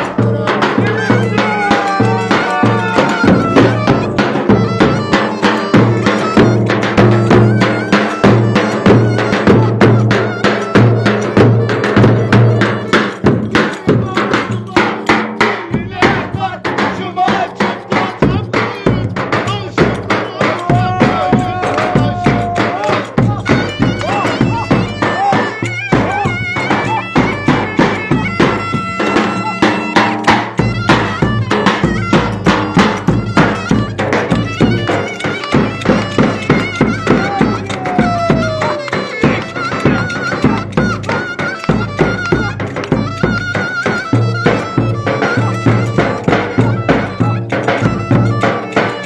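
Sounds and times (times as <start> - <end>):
folk dance music: 0.0 - 49.0
loud steady drumbeat: 0.0 - 49.0
sharp percussion strokes: 0.0 - 49.0
shrill reed wind instrument melody: 0.0 - 49.0.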